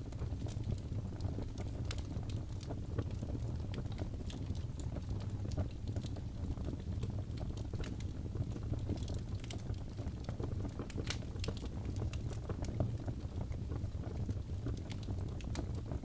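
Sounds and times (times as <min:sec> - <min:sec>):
fire crackling and popping: 0:00.0 - 0:16.0
fire flames rumbling: 0:00.0 - 0:16.0.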